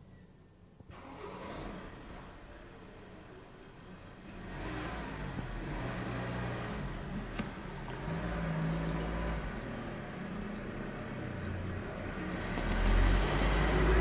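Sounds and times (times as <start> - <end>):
vehicle engine running: 2.2 - 14.0.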